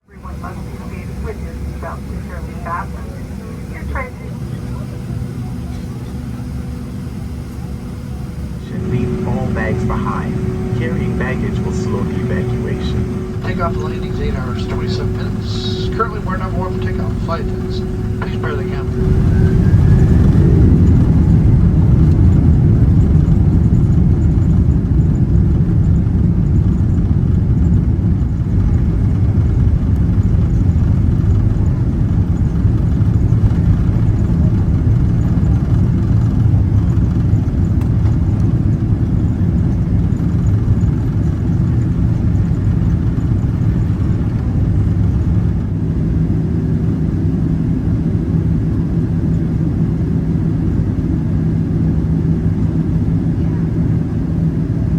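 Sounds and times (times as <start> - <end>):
jet engines rumbling: 0.0 - 54.9.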